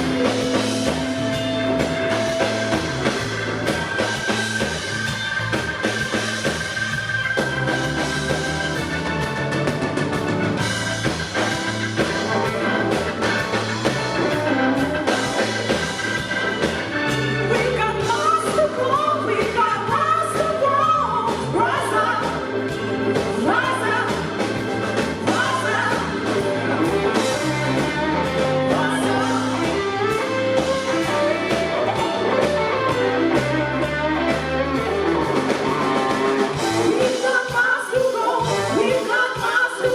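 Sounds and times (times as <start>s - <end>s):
bass guitar: 0.0s - 39.2s
drums: 0.0s - 39.9s
electric guitar lead line: 0.0s - 39.9s.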